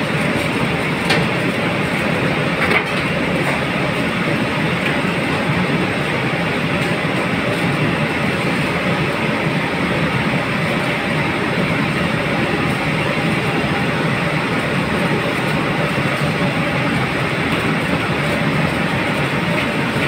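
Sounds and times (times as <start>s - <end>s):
kitchen equipment machine roar: 0.0s - 20.0s.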